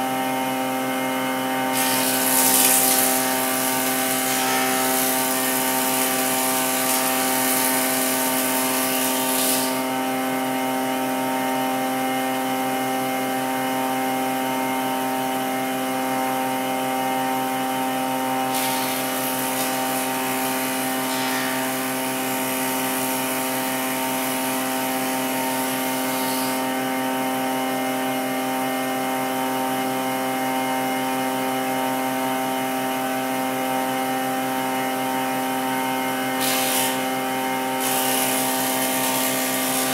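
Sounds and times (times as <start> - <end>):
woodworking machine motor hum: 0.0 - 39.9.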